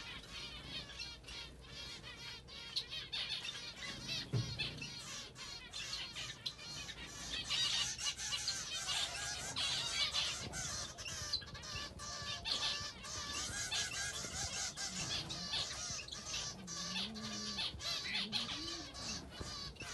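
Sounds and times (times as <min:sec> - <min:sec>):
young birds chirping and squawking: 0:00.0 - 0:19.9.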